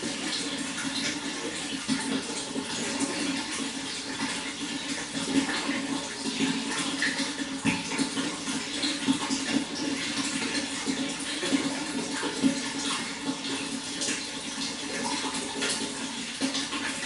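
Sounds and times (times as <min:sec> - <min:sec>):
running water splashing: 0:00.0 - 0:17.0.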